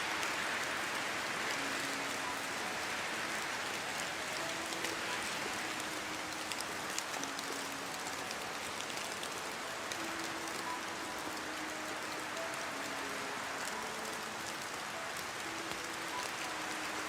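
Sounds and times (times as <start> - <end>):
heavy rain hiss: 0.0 - 17.0
rain drop ticks: 0.0 - 17.0.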